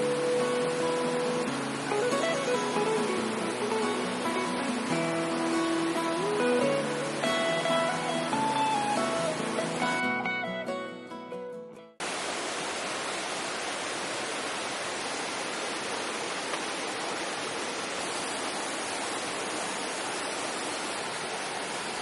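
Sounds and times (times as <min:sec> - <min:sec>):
rushing water hiss: 0:00.0 - 0:10.2, 0:12.0 - 0:22.0.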